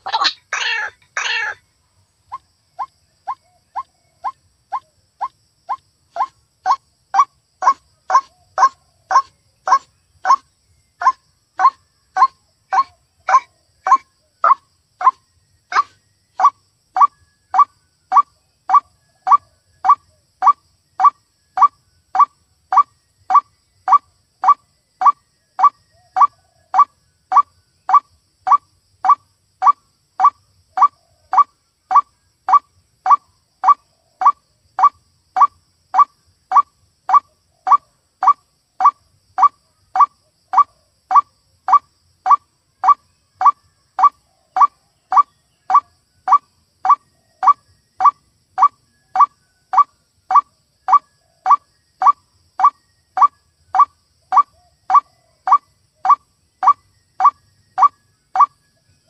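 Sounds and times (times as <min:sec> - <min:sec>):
repeated bird call note: 0:00.0 - 0:01.6, 0:03.3 - 0:10.4, 0:11.0 - 0:58.6.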